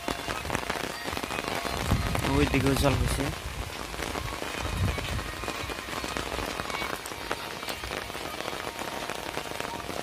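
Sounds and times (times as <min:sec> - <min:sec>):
heavy rain falling: 0:00.0 - 0:10.0
sharp raindrop ticks: 0:00.0 - 0:10.0.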